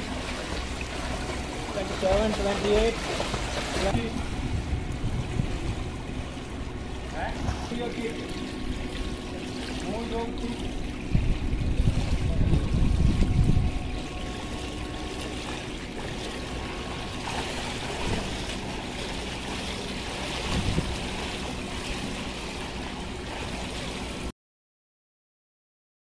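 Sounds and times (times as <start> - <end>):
pool water splashing: 0.0 - 24.3.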